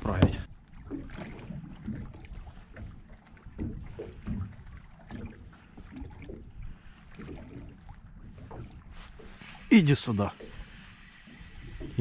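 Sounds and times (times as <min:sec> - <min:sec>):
water lapping against hull: 0:00.0 - 0:12.0.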